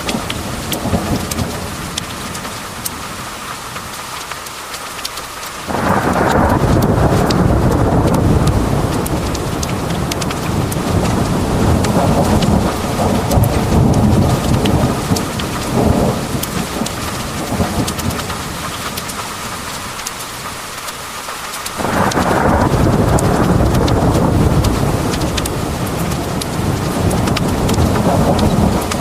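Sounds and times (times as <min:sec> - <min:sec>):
rolling thunder: 0:00.0 - 0:02.5, 0:05.6 - 0:20.0, 0:21.8 - 0:29.0
thunderclap: 0:00.0 - 0:02.5, 0:05.6 - 0:19.8, 0:21.7 - 0:29.0
heavy rain pouring: 0:00.0 - 0:29.0.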